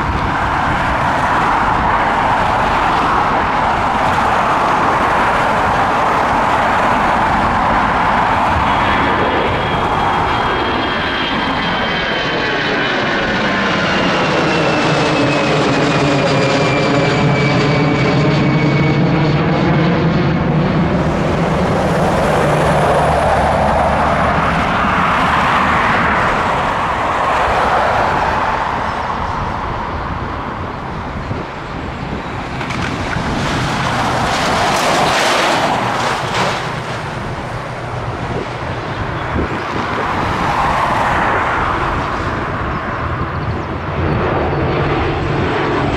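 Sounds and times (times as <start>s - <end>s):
jet airliner engines passing: 0.0s - 45.9s.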